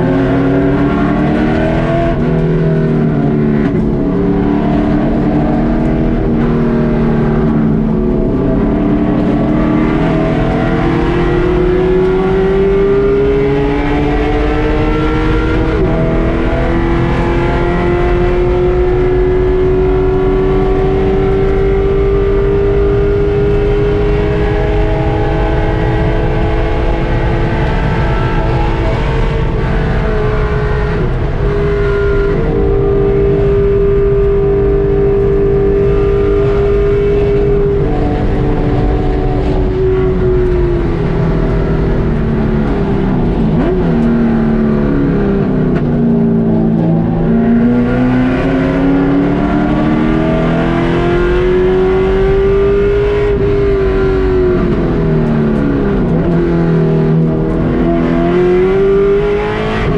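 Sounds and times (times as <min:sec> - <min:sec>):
race car engine at high revs: 0:00.0 - 0:59.9
road and wind noise: 0:00.0 - 0:59.9.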